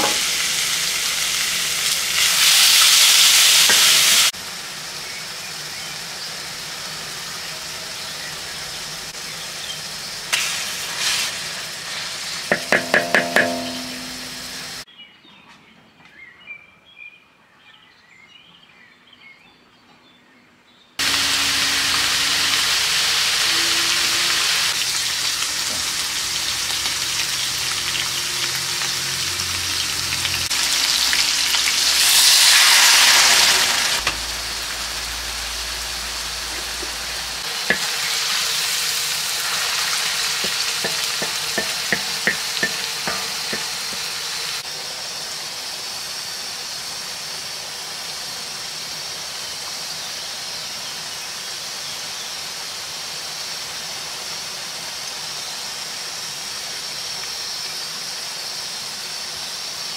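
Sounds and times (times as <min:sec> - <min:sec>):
food sizzling in a pan: 0:00.0 - 0:14.8, 0:21.0 - 0:59.9.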